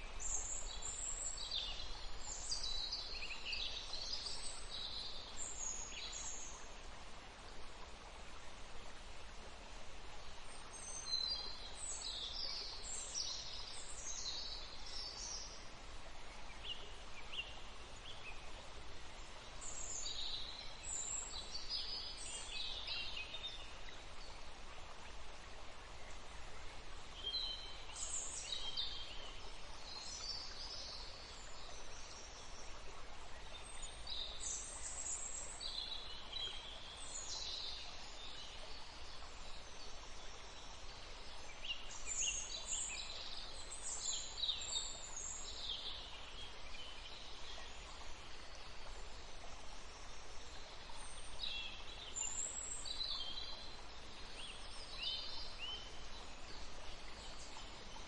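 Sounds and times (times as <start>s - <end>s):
faint background hiss: 0.0s - 58.0s.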